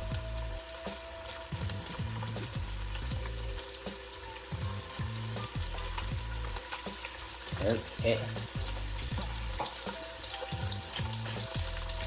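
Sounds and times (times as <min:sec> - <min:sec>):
sausage sizzling in oil: 0:00.0 - 0:12.0.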